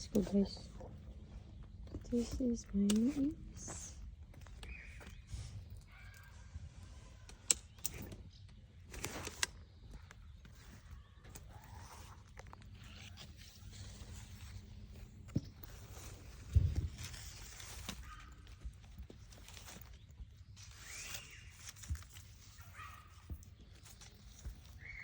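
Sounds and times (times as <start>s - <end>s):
rustling handling noise: 0.0s - 25.0s.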